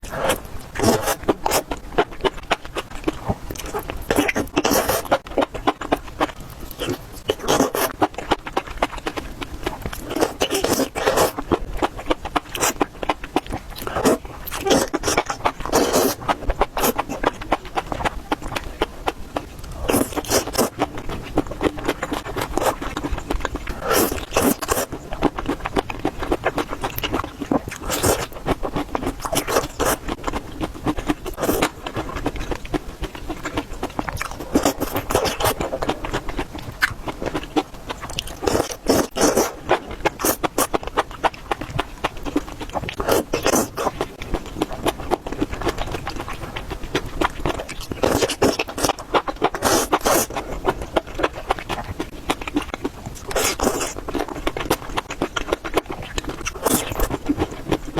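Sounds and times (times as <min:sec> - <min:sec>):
eating crunches and scrapes: 0:00.0 - 0:57.9.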